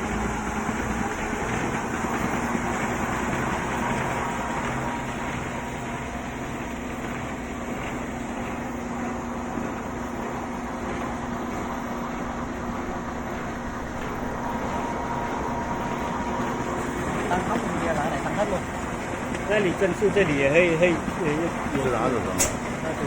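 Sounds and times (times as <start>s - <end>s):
pleating machine humming: 0.0s - 23.0s.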